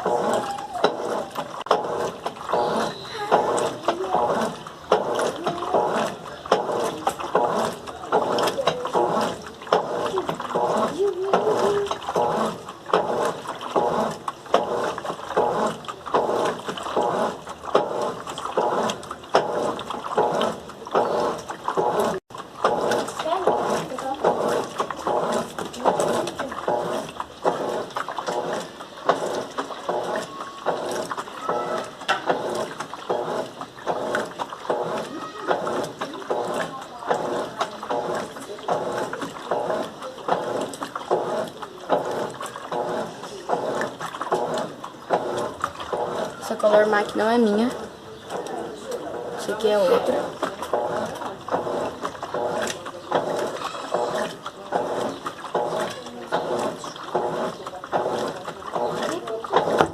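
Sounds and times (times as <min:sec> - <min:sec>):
washing machine water sloshing: 0:00.0 - 0:59.9.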